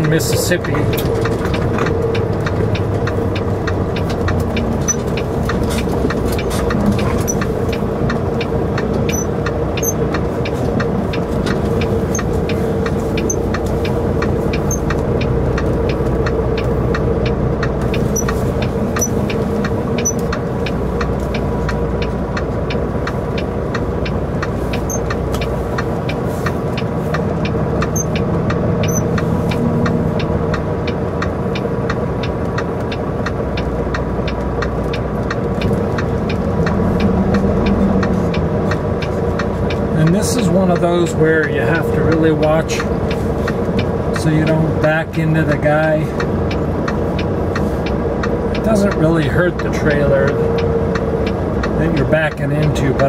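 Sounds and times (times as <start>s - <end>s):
light ticks: 0.0s - 53.0s
road noise: 0.0s - 53.0s
truck engine hum: 0.0s - 53.0s.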